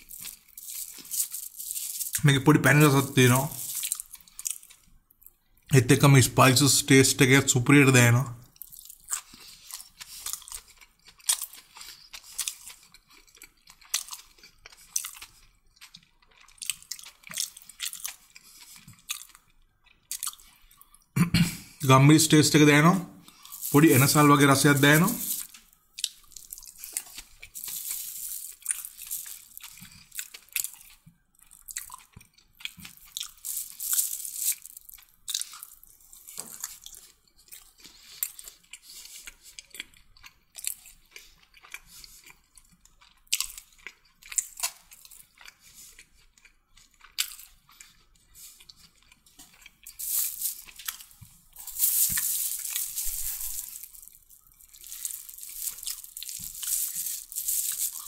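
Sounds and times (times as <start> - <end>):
person chewing food: 0.0 - 2.2, 2.8 - 5.7, 8.4 - 21.8, 23.1 - 58.0.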